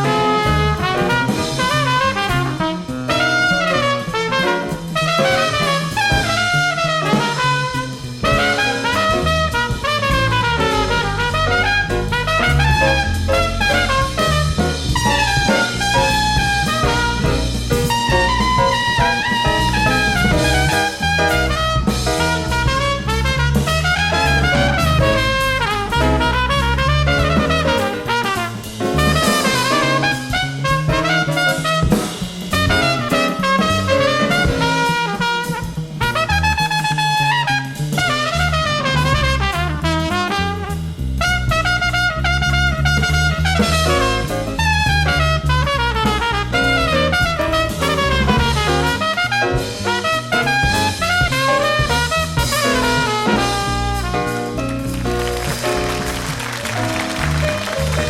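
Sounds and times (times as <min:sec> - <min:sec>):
bass: 0:00.0 - 0:58.0
drums: 0:00.0 - 0:58.0
horn playing melody: 0:00.0 - 0:58.0.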